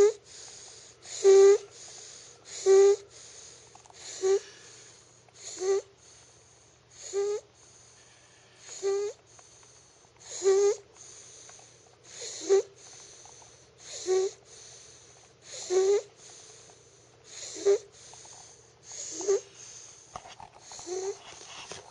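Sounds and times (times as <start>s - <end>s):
rhythmic snoring: 0.0s - 21.9s.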